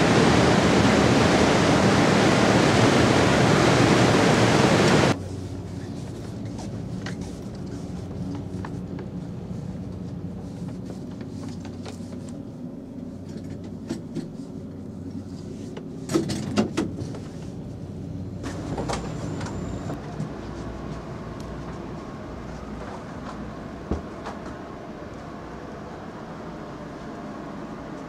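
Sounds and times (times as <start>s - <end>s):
low hum inside train coach: 0.0s - 28.0s.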